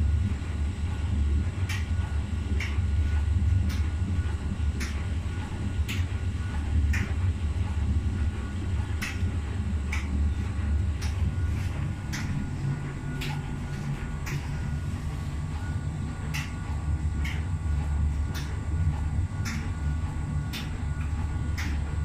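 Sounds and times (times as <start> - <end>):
washing machine drum knocking: 0.0 - 22.0
washing machine rumbling: 0.0 - 22.0.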